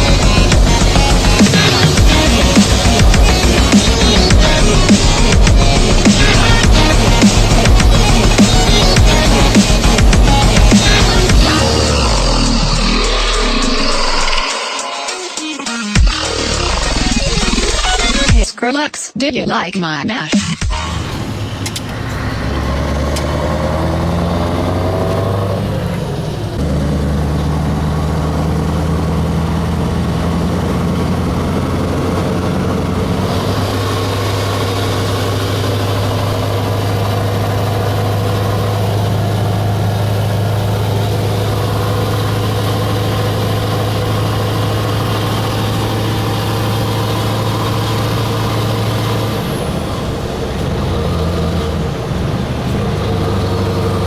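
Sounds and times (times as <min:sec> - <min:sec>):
diesel truck engine revving: 0:00.0 - 0:15.0, 0:16.0 - 0:18.3, 0:20.5 - 0:54.0.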